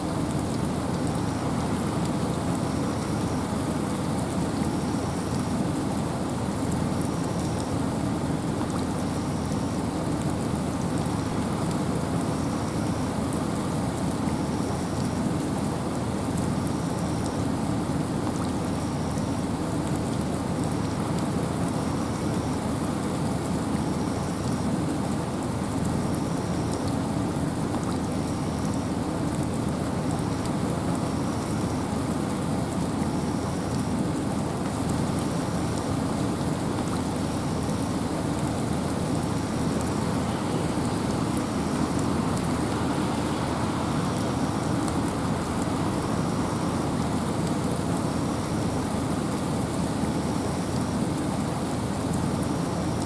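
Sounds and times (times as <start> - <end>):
rain falling in forest: 0.0 - 53.0.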